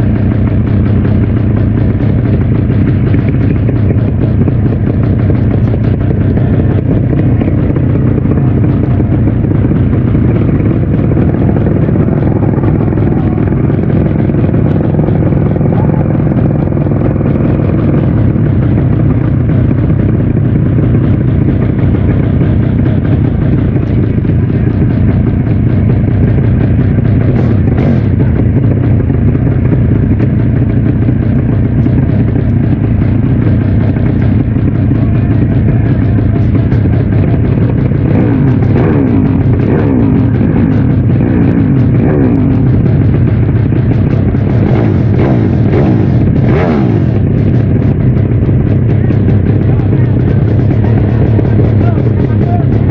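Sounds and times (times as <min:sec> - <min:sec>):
motorcycle engine running loud: 0:00.0 - 0:52.9.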